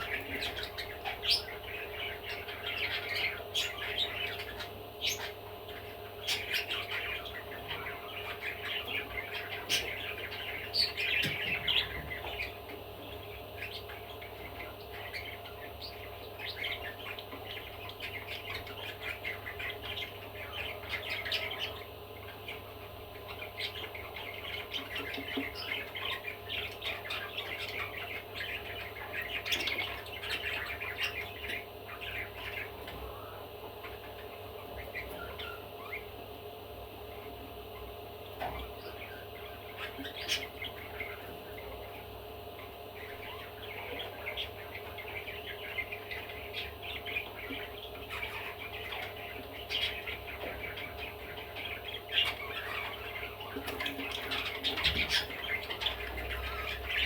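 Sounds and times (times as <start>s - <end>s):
budgerigar chattering: 0.0s - 36.2s, 37.0s - 57.0s
background hum: 0.0s - 57.0s.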